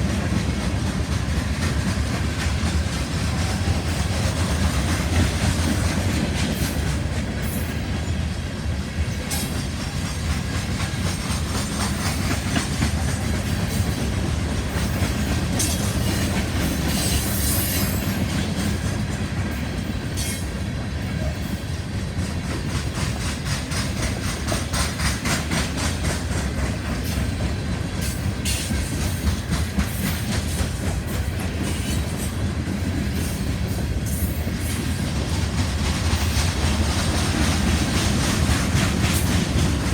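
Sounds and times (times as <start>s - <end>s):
train rumbling past: 0.0s - 39.9s
wheels clacking over rail joints: 0.0s - 39.9s.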